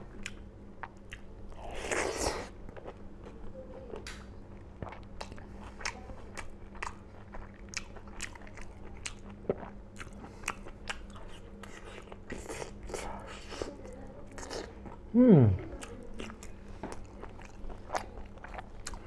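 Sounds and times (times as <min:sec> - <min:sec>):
man chewing with smacks: 0:00.0 - 0:19.0.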